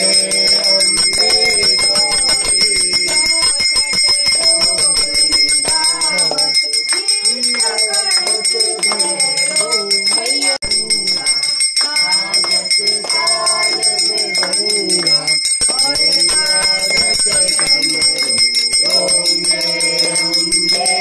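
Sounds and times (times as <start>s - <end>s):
person singing: 0.0s - 21.0s
small bells jingling: 0.0s - 21.0s.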